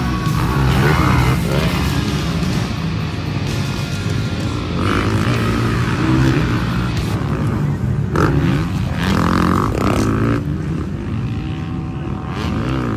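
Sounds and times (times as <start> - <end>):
dirt bike engines revving: 0.0 - 12.9.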